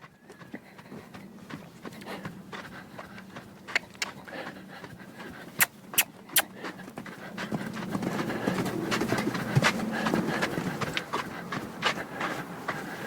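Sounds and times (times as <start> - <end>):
hooves striking hard ground: 0.0 - 13.0
horse breathing: 0.0 - 13.0
horse scuffling: 0.0 - 13.0.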